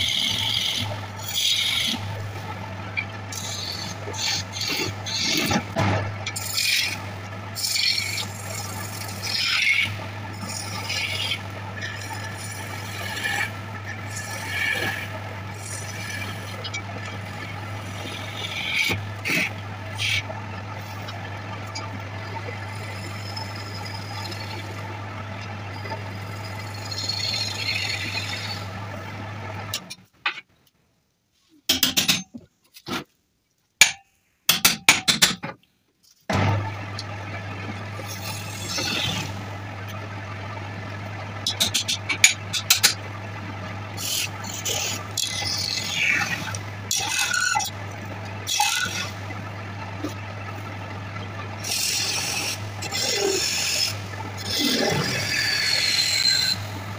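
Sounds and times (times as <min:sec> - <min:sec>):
lathe motor humming: 0:00.0 - 0:29.8, 0:36.3 - 0:56.9
chisel scraping spinning wood: 0:00.0 - 0:29.9, 0:36.3 - 0:56.9.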